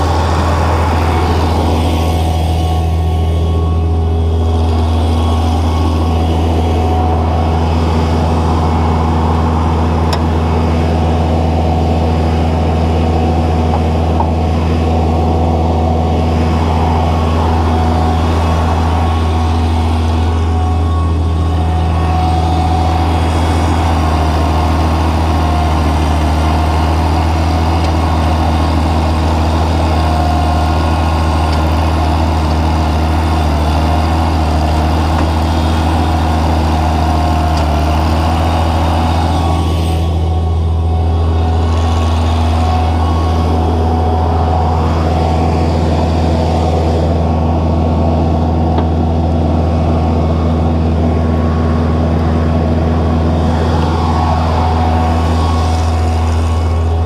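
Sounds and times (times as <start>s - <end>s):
loader engine running: 0.0s - 57.0s.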